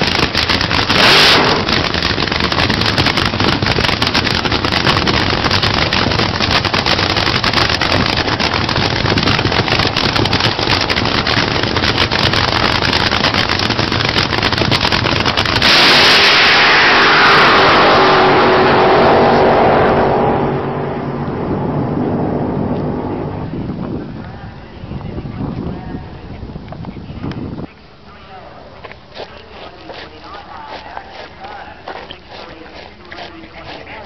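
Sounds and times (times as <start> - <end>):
drag racing engines crackling: 0.0 - 34.0.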